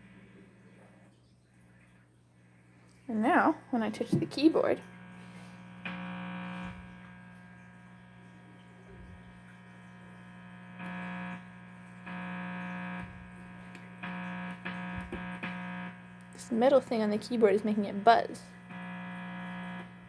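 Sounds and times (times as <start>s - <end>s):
amplifier hum: 0.0s - 20.0s.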